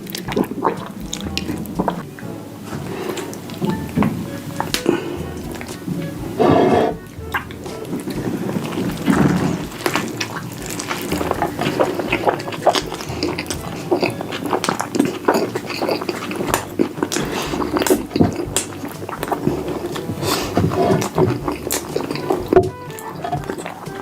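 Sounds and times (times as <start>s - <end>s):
person chewing and slurping food: 0.0s - 24.0s.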